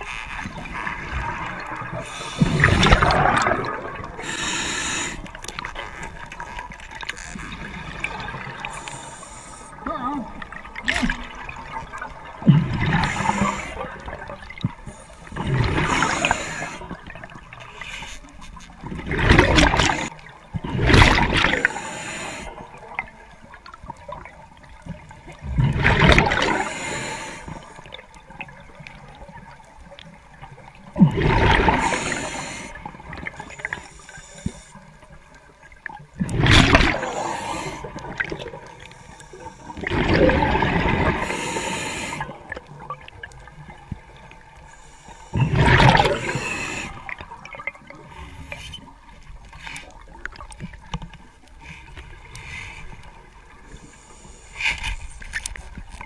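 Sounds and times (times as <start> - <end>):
exhaled bubbles underwater: 0.0 - 9.1, 9.7 - 17.8, 18.8 - 33.8, 35.0 - 44.7, 45.3 - 50.9.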